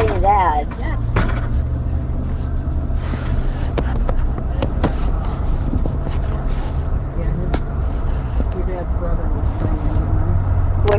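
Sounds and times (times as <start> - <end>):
vehicle cabin rumble: 0.0 - 10.9.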